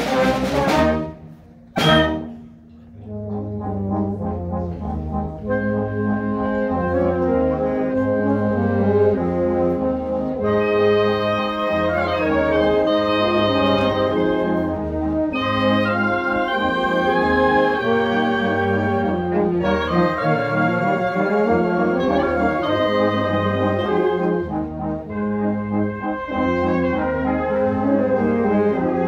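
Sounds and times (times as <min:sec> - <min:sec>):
concert band playing: 0:00.0 - 0:29.0.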